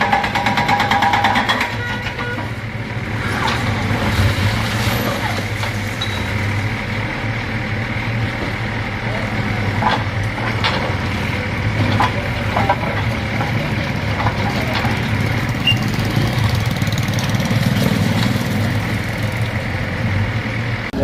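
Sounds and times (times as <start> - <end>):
diesel locomotive engine idling: 0.0 - 21.0.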